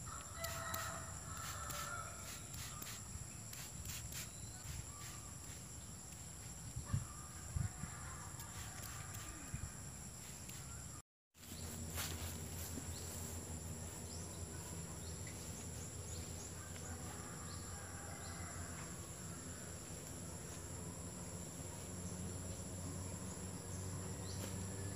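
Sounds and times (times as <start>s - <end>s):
insects trilling: 0.0s - 24.9s.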